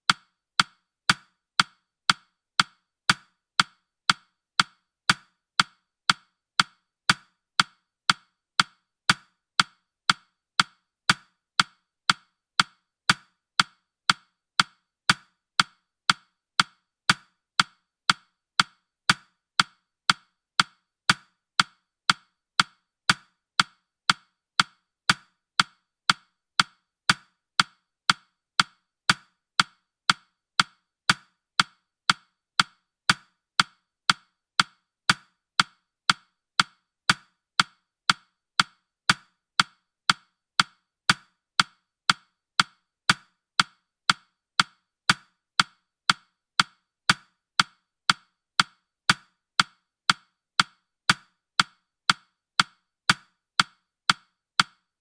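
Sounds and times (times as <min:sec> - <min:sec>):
clock ticking: 0:00.0 - 0:54.8.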